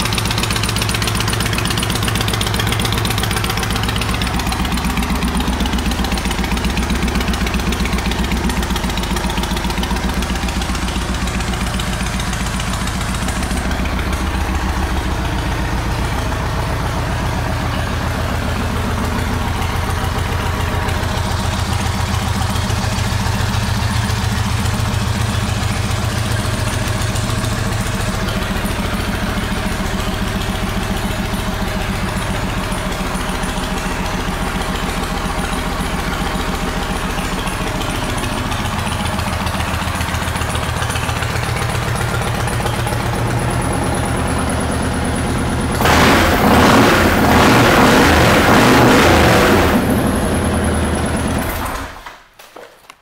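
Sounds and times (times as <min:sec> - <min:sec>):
motorcycle engine idling and revving: 0:00.0 - 0:52.1.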